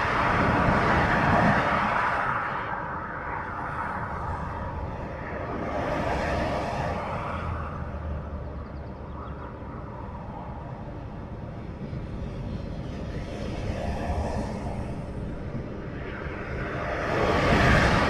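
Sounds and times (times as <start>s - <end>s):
traffic rushing past: 0.0s - 18.0s.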